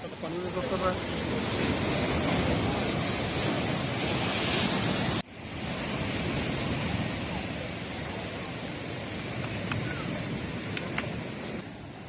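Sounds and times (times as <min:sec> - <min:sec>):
heavy surf breaking: 0:00.0 - 0:12.0
wind: 0:00.0 - 0:12.0.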